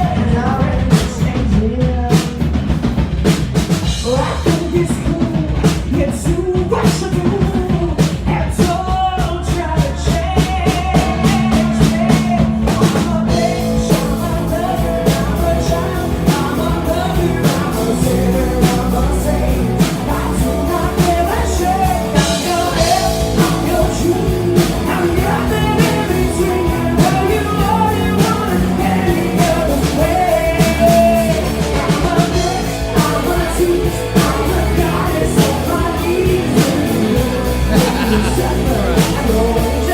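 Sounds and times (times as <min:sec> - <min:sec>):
person singing: 0:00.0 - 0:02.6, 0:04.0 - 0:39.9
live rock band playing: 0:00.0 - 0:39.9.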